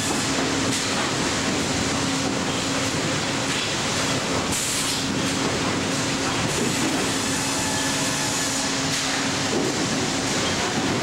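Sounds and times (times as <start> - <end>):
constant machine hum: 0.0 - 11.0.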